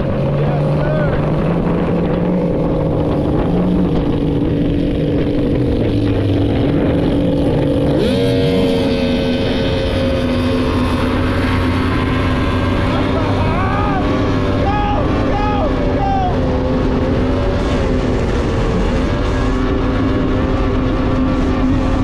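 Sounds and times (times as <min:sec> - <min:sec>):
outboard engine running hard: 0:00.0 - 0:22.0.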